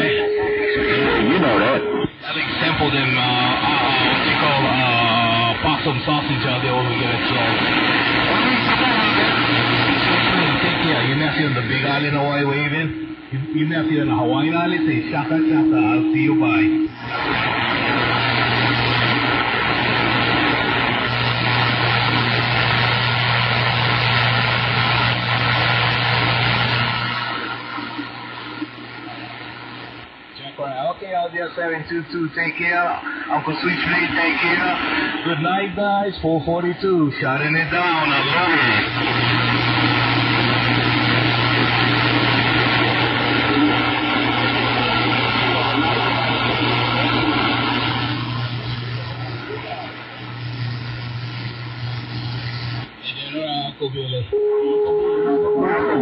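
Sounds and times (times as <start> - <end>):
low hum: 0.0 - 30.4, 37.4 - 53.0
radio static hiss: 0.0 - 56.0.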